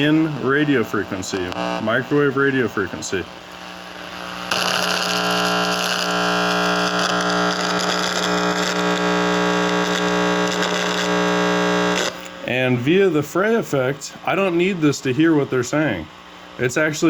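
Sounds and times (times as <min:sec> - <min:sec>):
speaker buzzing hum: 0:00.0 - 0:17.0.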